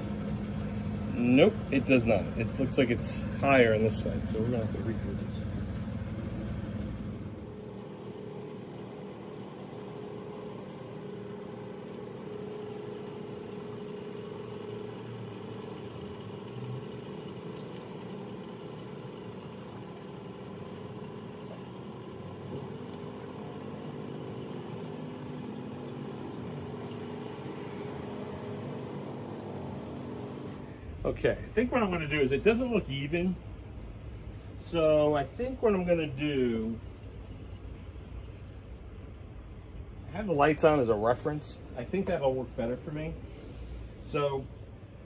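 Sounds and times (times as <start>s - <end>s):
engine drone: 0.0s - 45.0s.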